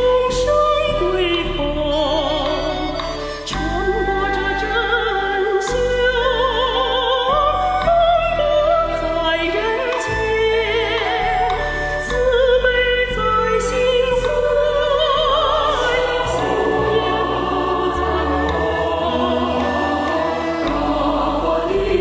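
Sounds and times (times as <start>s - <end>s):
operatic singing with vibrato: 0.0s - 22.0s
sustained instrumental chords: 2.8s - 22.0s.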